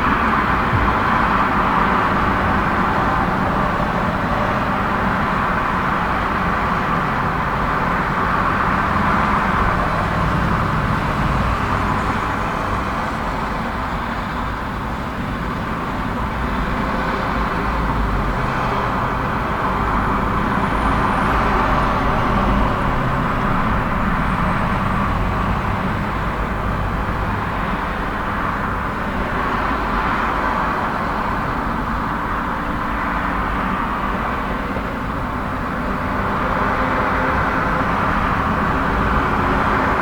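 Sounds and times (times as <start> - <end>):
busy road traffic: 0.0 - 40.0.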